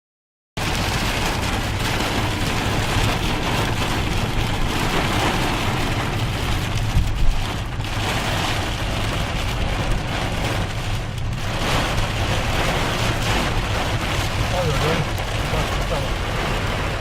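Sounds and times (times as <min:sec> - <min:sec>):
engine and road rumble: 0:00.6 - 0:17.0
heavy rain on a car: 0:00.6 - 0:17.0.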